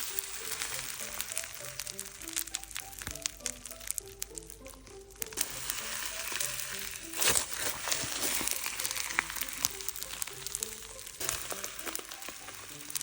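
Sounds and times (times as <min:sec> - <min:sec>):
slime crackling and fizzing: 0:00.0 - 0:13.0
slime squish: 0:00.0 - 0:13.0
soft background music: 0:00.0 - 0:13.0.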